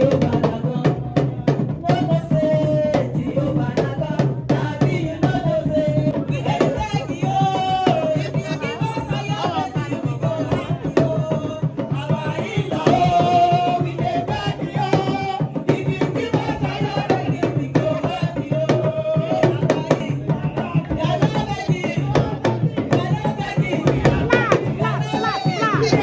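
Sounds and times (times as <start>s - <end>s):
drums and percussion: 0.0s - 26.0s
singing melody: 0.0s - 26.0s.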